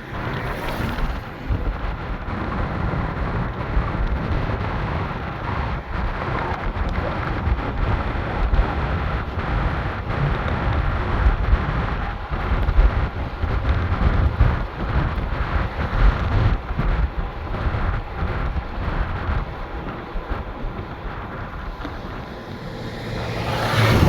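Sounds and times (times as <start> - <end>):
moving car rumble: 0.0 - 24.0
wind buffeting microphone: 0.0 - 24.0.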